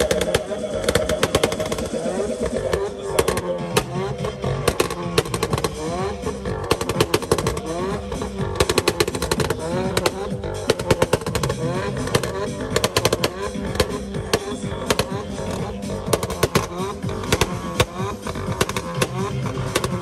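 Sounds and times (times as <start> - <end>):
car exhaust pops and crackles: 0.0 - 20.0
music: 0.0 - 20.0.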